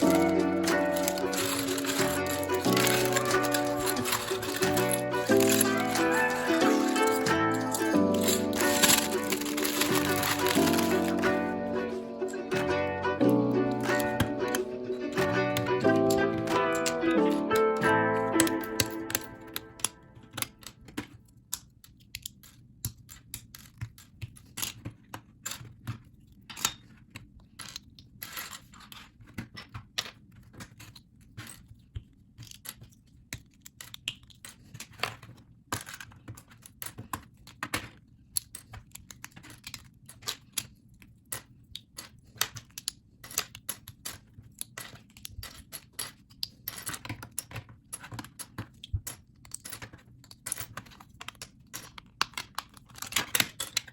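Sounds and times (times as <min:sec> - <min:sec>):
plastic bricks clicking and clattering: 0:00.0 - 0:53.9.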